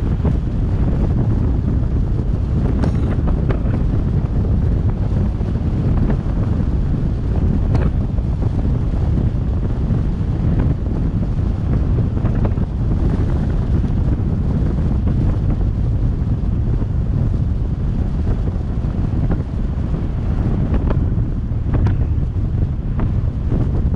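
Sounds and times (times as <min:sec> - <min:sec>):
low road rumble: 0:00.0 - 0:23.9
wind buffeting microphone: 0:00.0 - 0:23.9.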